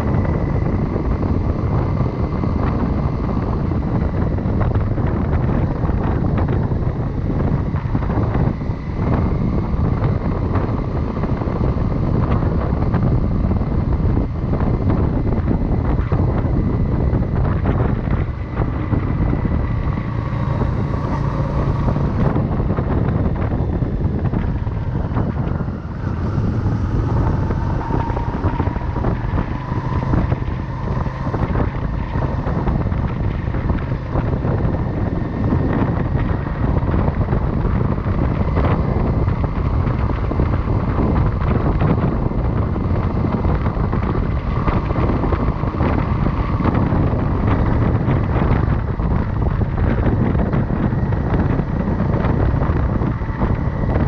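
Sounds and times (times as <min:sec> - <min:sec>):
faint whine: 0:00.0 - 0:54.0
motorcycle engine running: 0:00.0 - 0:54.0
wind buffeting microphone: 0:00.0 - 0:54.0.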